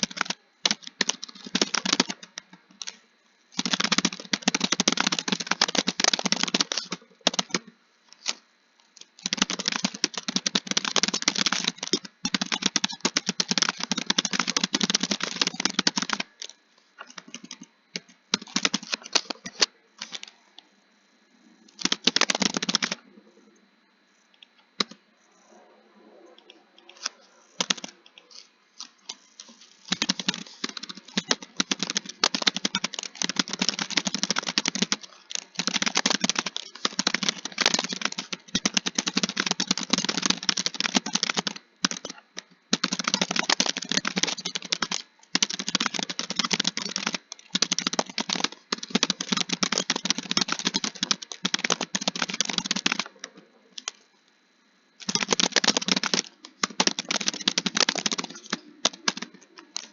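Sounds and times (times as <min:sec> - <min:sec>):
fast keyboard typing: 0:00.0 - 0:08.4, 0:09.0 - 0:20.3, 0:21.7 - 0:23.0, 0:26.9 - 0:28.3, 0:29.1 - 0:54.0, 0:55.0 - 0:59.9.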